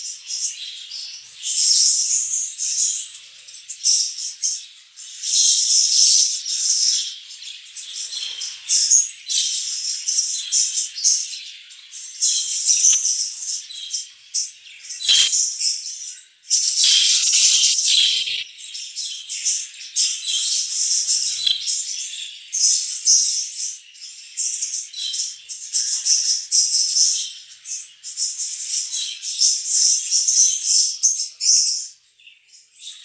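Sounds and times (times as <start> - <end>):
budgies chattering and chirping: 0.1 - 31.9.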